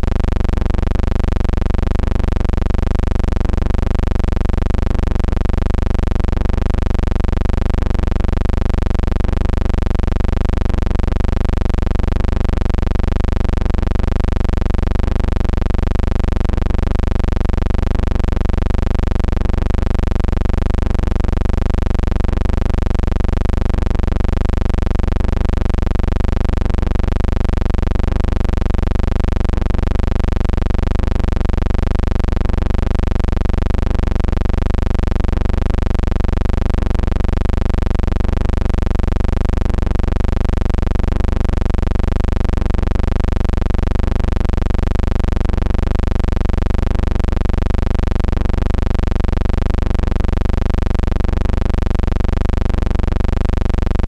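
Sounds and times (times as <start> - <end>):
loud pulsing low hum: 0.0 - 54.0.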